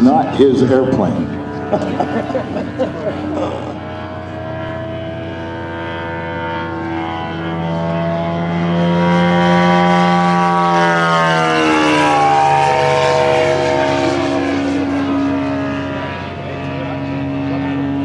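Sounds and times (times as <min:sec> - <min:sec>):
model airplane engine flyby: 0:00.0 - 0:18.0.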